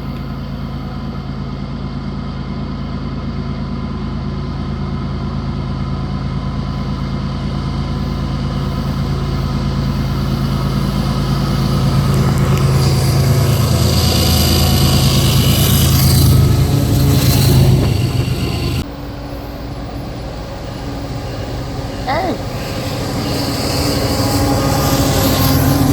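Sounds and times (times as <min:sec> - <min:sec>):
diesel locomotive engine drone: 0:00.0 - 0:25.9
rail and wheel noise: 0:00.0 - 0:25.9.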